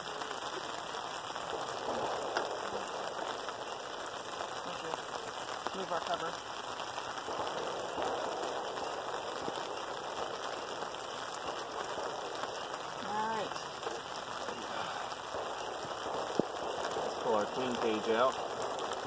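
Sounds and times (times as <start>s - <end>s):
light rain on canopy: 0.0s - 19.0s.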